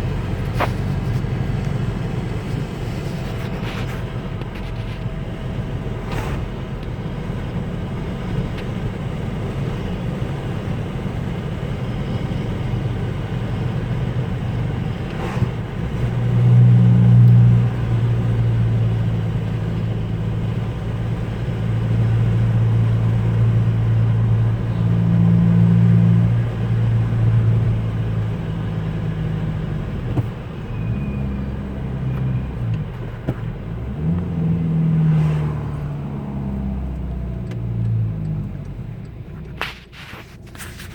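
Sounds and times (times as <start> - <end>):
diesel engine exhaust drone: 0.0 - 40.9.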